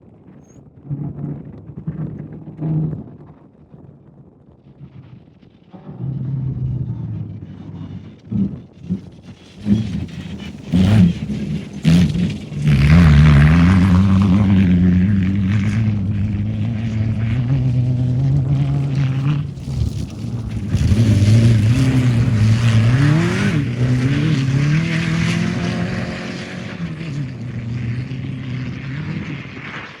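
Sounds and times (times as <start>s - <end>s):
race vehicle engine revving: 5.7s - 30.0s.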